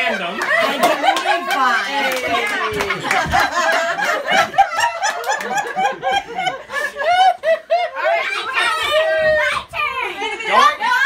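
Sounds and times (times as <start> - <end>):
people laughing: 0.0 - 9.2, 10.0 - 11.0.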